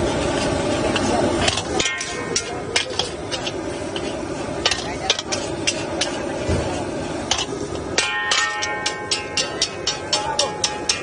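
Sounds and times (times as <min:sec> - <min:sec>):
frying sizzle: 0:00.0 - 0:11.0
spatula clanking on wok: 0:01.4 - 0:11.0.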